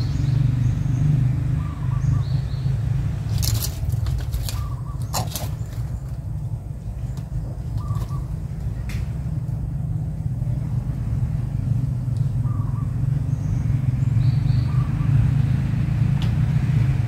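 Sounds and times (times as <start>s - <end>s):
low motor rumble: 0.0s - 17.0s.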